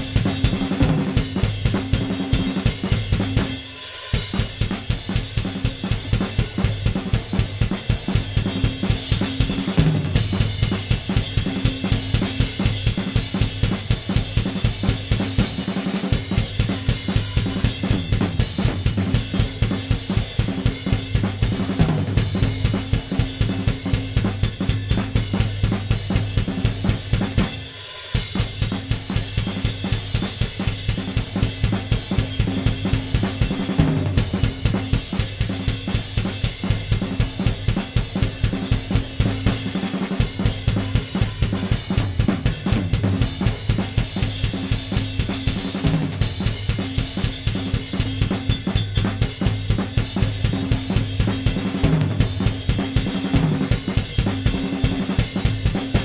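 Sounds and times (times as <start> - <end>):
drum kit playing fast beat: 0.0 - 56.0.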